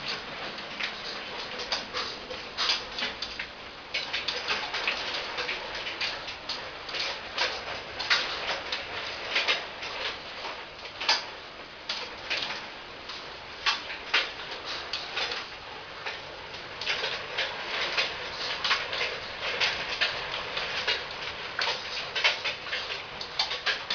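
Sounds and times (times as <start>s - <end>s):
rainwater dripping and splashing: 0.0s - 23.9s
steady hiss of rain: 0.0s - 23.9s.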